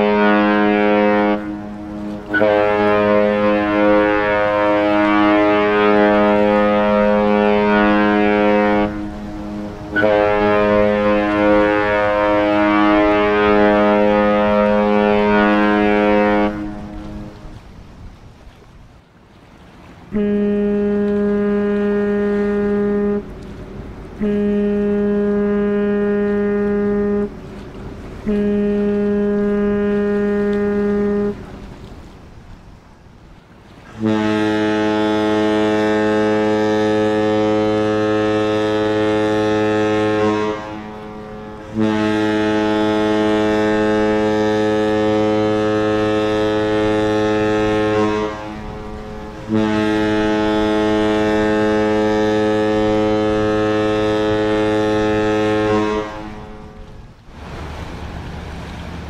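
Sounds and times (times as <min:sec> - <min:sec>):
deep ship horn blasts: 0:00.0 - 0:18.6, 0:19.6 - 0:59.0
ship's horn: 0:00.0 - 0:18.6, 0:19.6 - 0:59.0.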